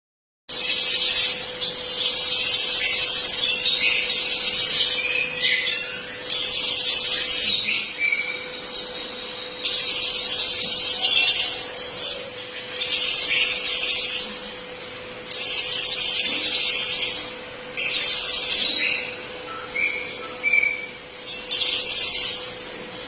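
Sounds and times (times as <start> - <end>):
songbird twittering: 0.5 - 14.5, 15.3 - 22.6.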